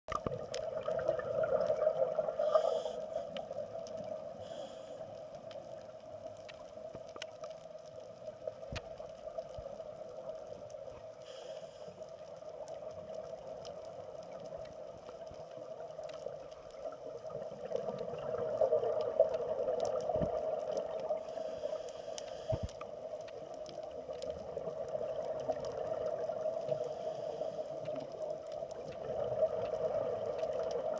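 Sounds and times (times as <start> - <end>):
faint clicks: 0.1 - 30.9
underwater water drone: 0.1 - 30.9.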